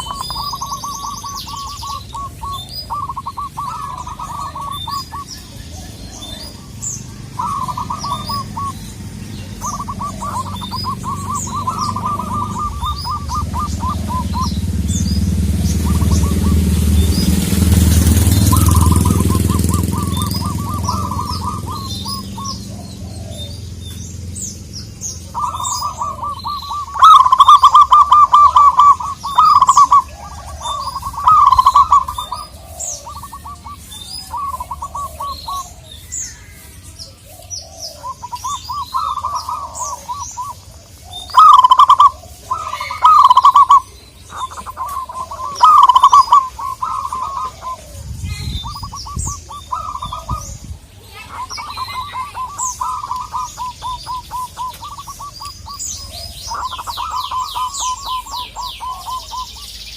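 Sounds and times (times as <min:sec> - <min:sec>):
doves cooing: 0:00.0 - 0:59.9
small birds chirping: 0:00.0 - 0:59.9.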